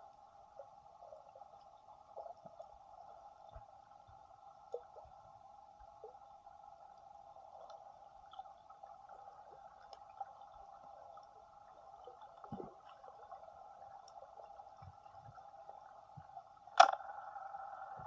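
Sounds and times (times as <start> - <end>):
faint crackles: 0.0 - 18.0
muffled underwater hum: 0.0 - 18.0.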